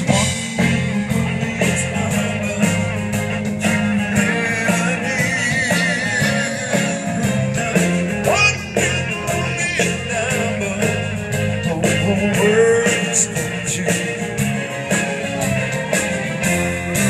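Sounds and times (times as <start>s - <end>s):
electric guitar: 0.0s - 17.0s
live rock band: 0.0s - 17.0s
steady drum beat: 0.0s - 17.0s.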